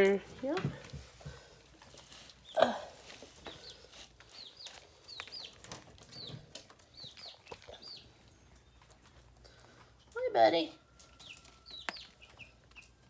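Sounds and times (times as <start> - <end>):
chicken peeping: 2.0 - 13.0.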